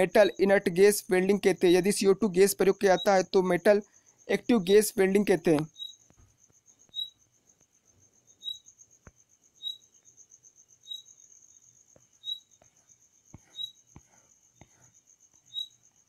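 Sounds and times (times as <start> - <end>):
insect trilling: 0.0 - 12.6, 13.4 - 13.9, 14.9 - 16.0
insect chirp: 0.0 - 16.0.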